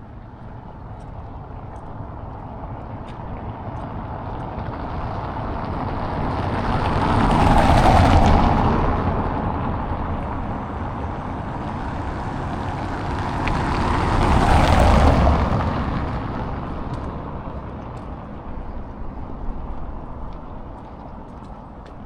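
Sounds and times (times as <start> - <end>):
vehicle passing by: 0.2 - 21.8.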